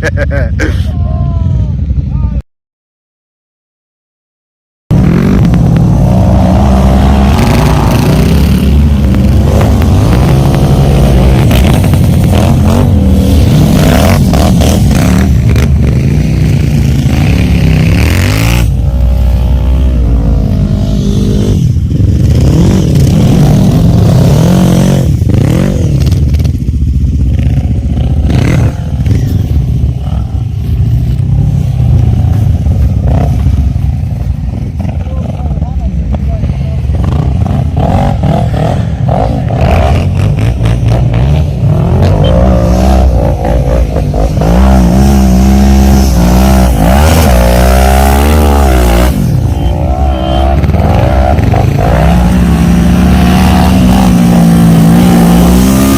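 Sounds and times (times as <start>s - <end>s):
quad bike engines revving: 4.9s - 55.9s.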